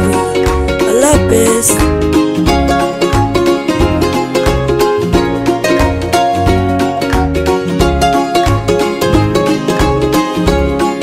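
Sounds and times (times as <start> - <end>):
music with plucked strings and beat: 0.0 - 11.0.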